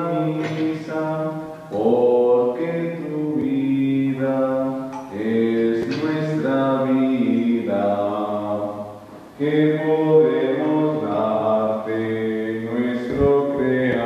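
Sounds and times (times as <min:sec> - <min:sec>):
hymn sung in long notes: 0:00.0 - 0:14.0.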